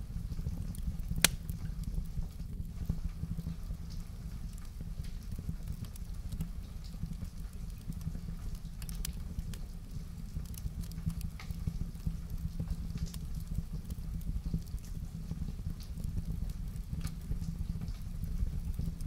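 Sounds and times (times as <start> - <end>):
wood fire crackling: 0.0 - 19.0
sharp fire pops: 0.3 - 3.0, 3.9 - 19.0.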